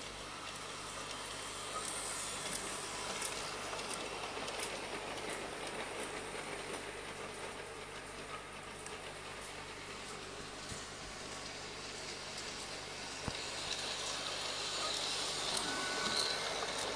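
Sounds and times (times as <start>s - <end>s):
model train rolling on track: 0.0s - 16.9s
wheels clicking over rail joints: 1.8s - 16.9s.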